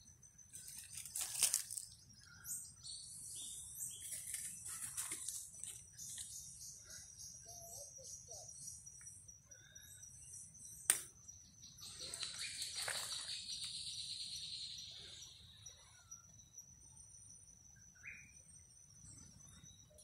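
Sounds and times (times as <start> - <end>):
bird chirps: 0.0 - 20.0
steady high insect whine: 0.0 - 20.0.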